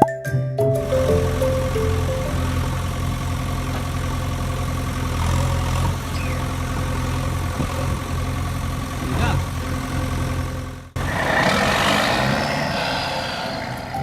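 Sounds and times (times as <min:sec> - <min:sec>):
vehicle engine idling: 0:00.8 - 0:13.4.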